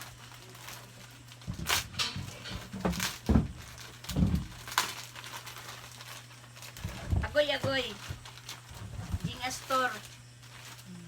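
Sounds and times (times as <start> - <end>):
parcel crackling and knocking: 0.0 - 11.0.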